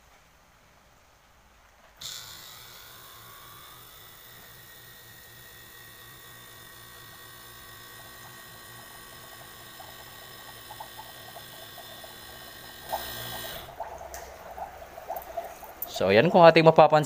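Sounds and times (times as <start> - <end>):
compressor humming: 1.0 - 17.0
gas bubbling into water: 2.0 - 16.6.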